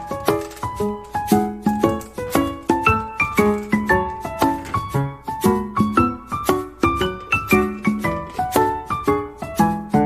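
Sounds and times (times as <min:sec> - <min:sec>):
light brisk melody: 0:00.0 - 0:10.0.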